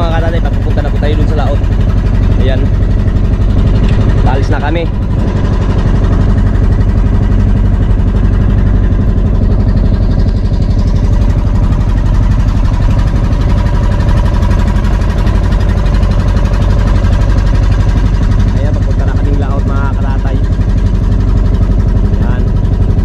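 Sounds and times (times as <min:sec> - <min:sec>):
boat engine pulsing drone: 0:00.0 - 0:23.0.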